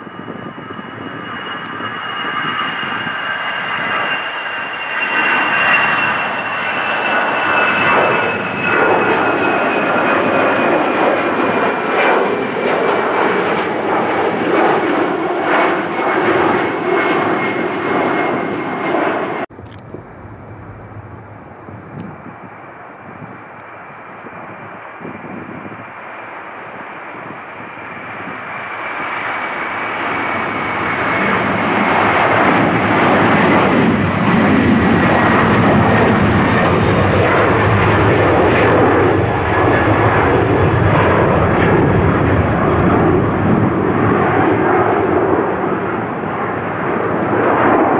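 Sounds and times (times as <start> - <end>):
jet engines with high whine: 0.0 - 47.9.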